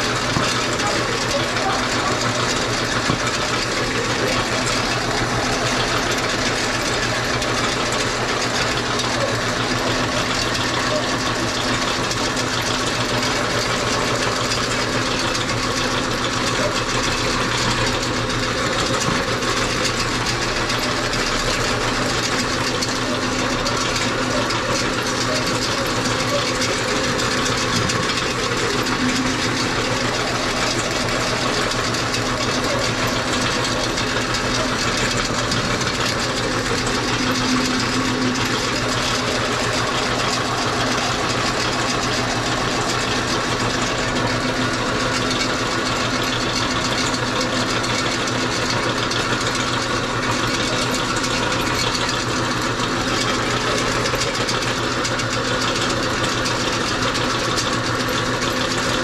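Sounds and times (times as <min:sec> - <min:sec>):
meat grinder motor humming: 0:00.0 - 0:59.0.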